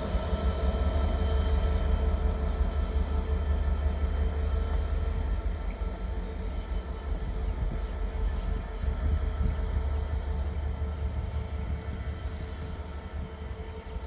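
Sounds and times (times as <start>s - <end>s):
faint hum of steady tones: 0.0s - 14.0s
train rumbling: 0.0s - 14.0s.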